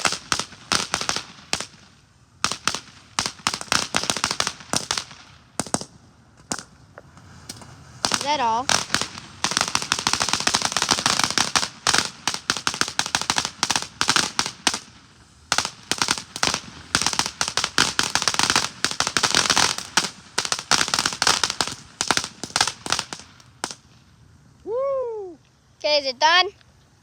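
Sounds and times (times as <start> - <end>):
firework cracks and pops: 0.0 - 24.2.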